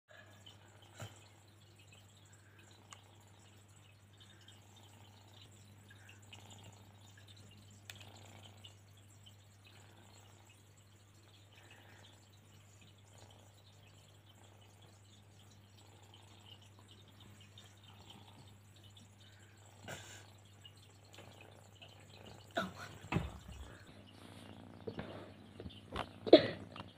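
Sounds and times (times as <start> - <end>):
water dripping and trickling: 0.1 - 26.9.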